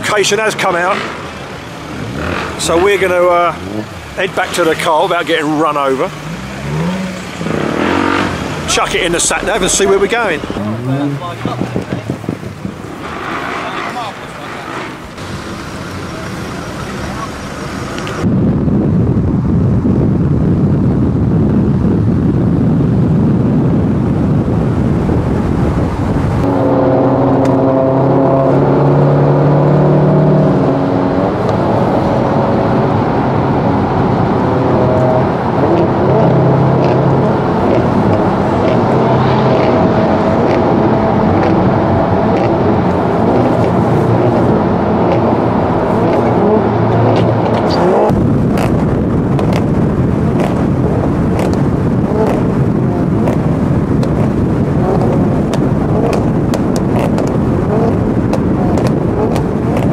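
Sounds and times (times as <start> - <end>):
car engine drone: 0.0 - 59.9
exhaust crackles: 0.0 - 59.9
wind and road rush: 0.0 - 59.9.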